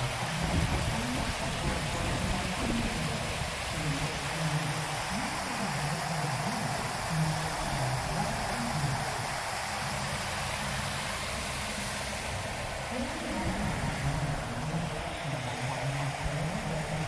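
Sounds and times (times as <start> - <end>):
faint voices: 0.0 - 17.0
fountain water splashing: 0.0 - 17.0.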